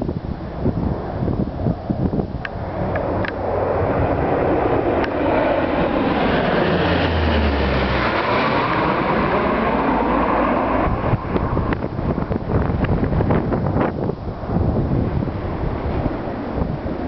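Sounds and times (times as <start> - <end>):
airplane engines droning overhead: 0.0 - 17.0
wind buffeting microphone: 0.0 - 17.0.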